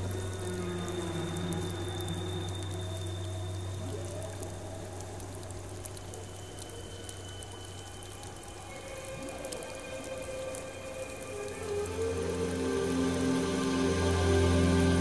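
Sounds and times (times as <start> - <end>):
ambient drone music: 0.0 - 15.0
water trickling and dripping: 0.0 - 15.0.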